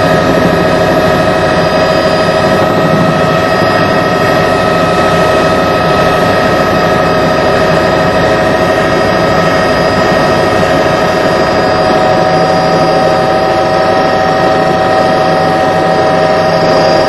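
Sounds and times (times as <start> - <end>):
rotor and airflow noise: 0.0 - 17.0
turbine engine whine: 0.0 - 17.0.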